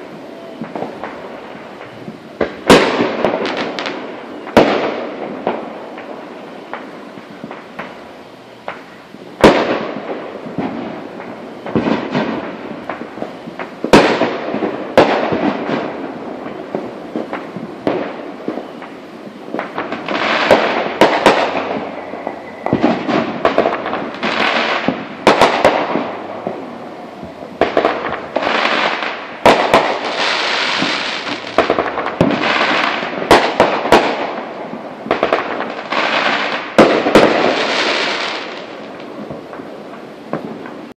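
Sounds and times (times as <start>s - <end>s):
fireworks bangs: 0.0s - 40.9s
fireworks crackling: 0.0s - 40.9s.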